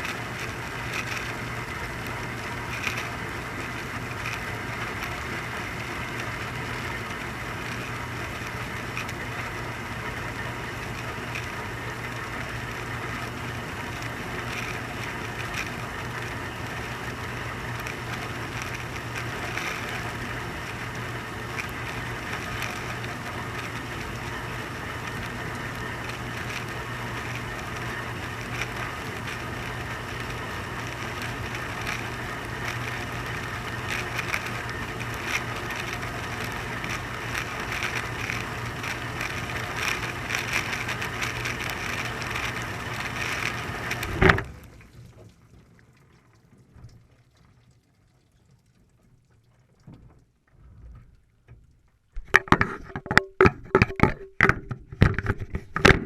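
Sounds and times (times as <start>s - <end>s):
dishwasher motor humming: 0.0s - 44.9s
rushing wash water: 0.0s - 45.5s.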